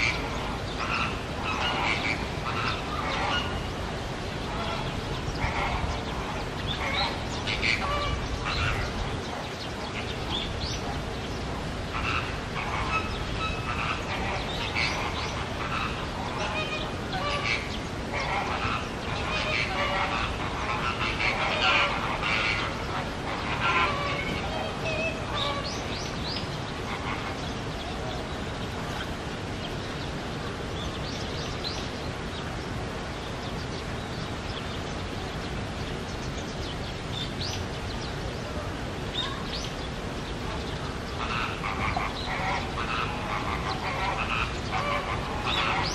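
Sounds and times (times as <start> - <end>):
outdoor background noise: 0.0 - 45.9.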